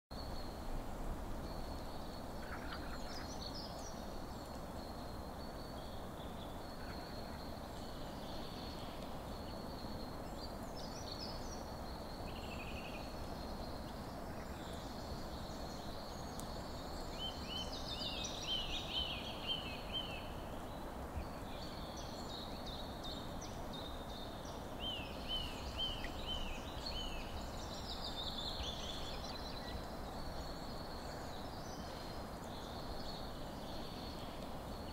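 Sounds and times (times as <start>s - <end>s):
background hiss: 0.1s - 34.9s
birds singing: 0.1s - 34.9s.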